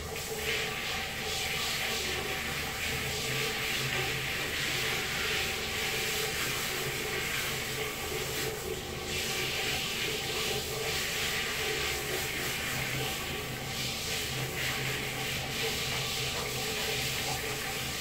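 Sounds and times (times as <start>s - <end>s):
shower spray hissing: 0.1s - 18.0s.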